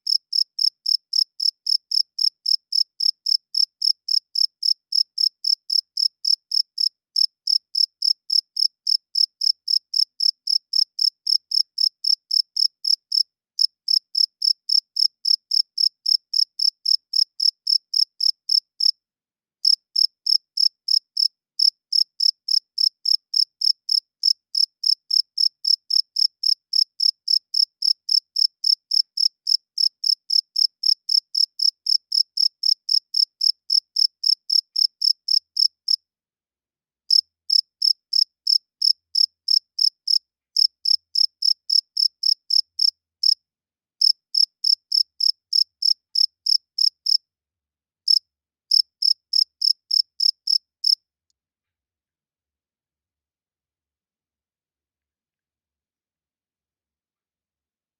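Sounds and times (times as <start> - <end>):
cricket chirping: 0.1 - 18.9, 19.6 - 35.7, 37.1 - 43.4, 44.0 - 47.2, 48.1 - 51.0.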